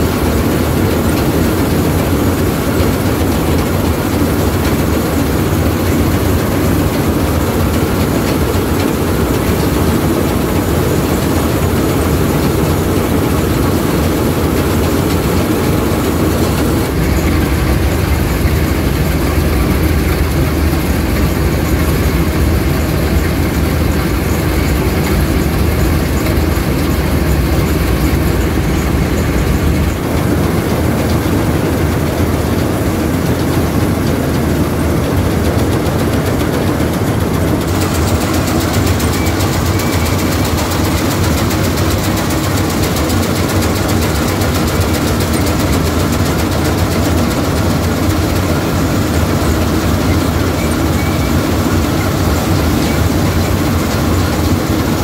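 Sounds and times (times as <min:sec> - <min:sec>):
combine harvester machinery din: 0:00.0 - 0:55.0.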